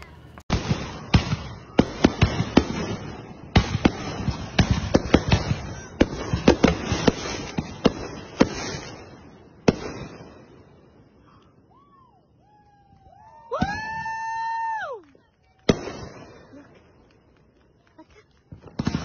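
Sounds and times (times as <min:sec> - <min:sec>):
fireworks bangs: 0:00.0 - 0:11.9, 0:12.5 - 0:19.0.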